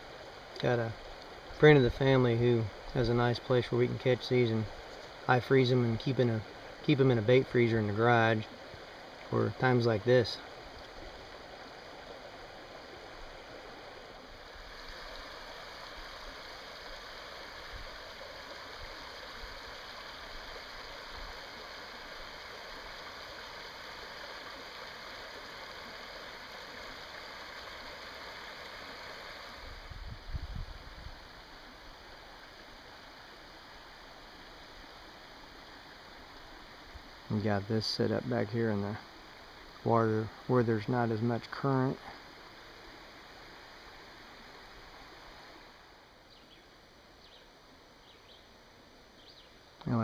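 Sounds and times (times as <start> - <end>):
flowing river water: 0.0 - 50.0.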